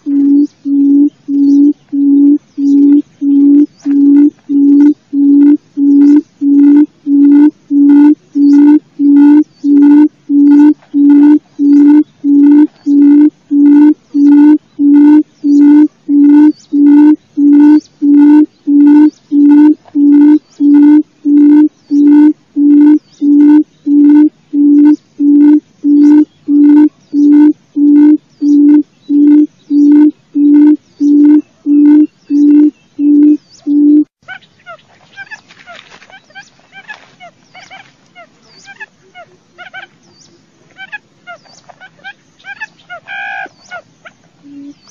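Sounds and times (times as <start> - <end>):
quail call hooting: 0.0 - 40.0, 40.8 - 44.8.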